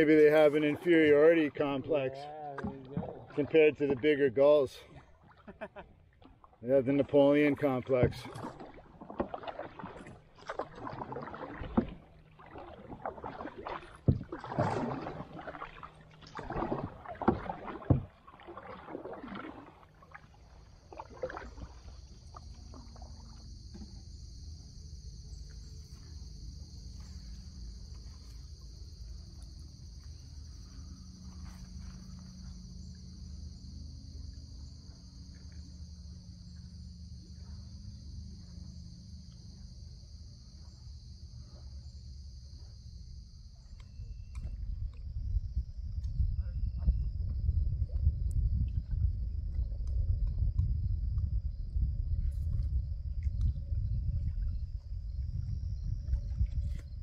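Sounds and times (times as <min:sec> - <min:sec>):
high insect chorus: 0:00.0 - 0:05.8, 0:06.6 - 0:57.0.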